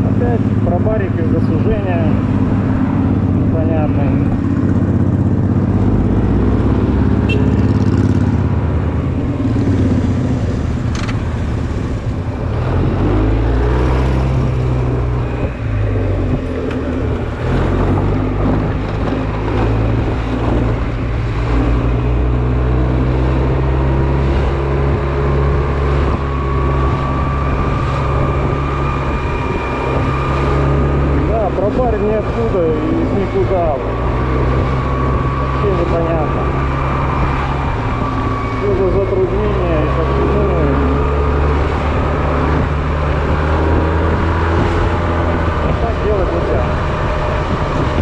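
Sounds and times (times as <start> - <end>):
road and wind noise: 0.0 - 48.0.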